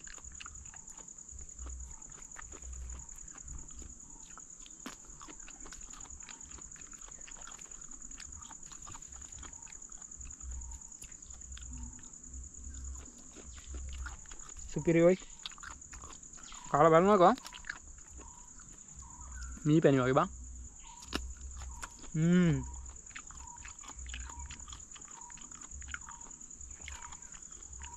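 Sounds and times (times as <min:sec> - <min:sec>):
wet chewing and mouth smacking: 0:00.0 - 0:19.7, 0:20.7 - 0:27.9
high-pitched insect drone: 0:00.0 - 0:27.9.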